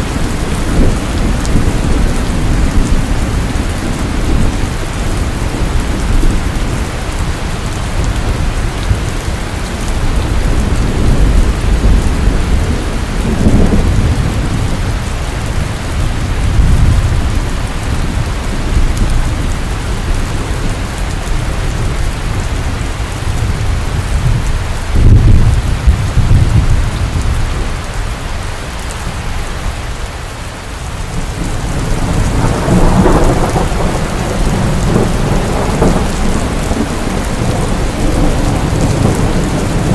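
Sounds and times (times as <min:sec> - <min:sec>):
thunder rumbling: 0:00.0 - 0:27.9, 0:31.0 - 0:39.9
rain falling: 0:00.0 - 0:39.9.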